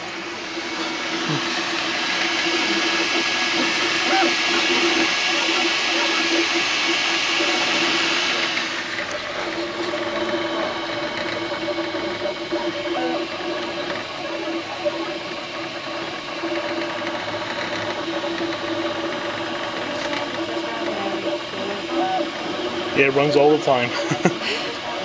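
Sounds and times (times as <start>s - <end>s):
cooling fans hissing: 0.0s - 25.0s
printer motor whine: 0.0s - 25.0s.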